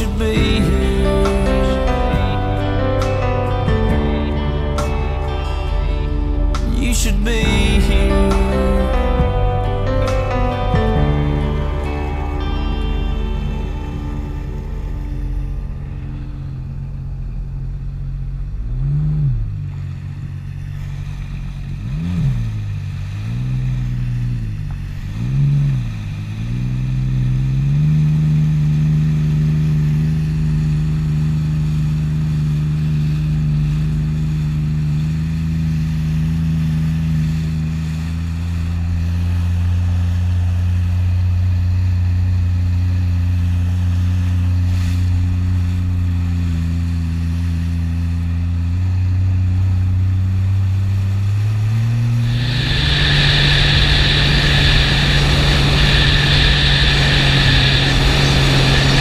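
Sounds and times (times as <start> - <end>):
jet ski engine revving: 0.0 - 59.0.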